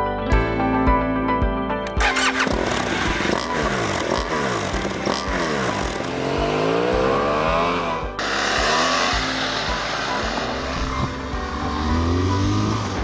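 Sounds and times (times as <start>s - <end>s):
motorcycle engine revving: 2.0s - 13.0s.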